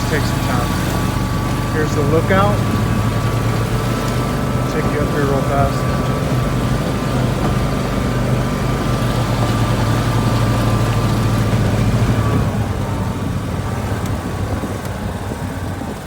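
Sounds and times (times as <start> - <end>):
utility vehicle engine running: 0.0 - 16.0.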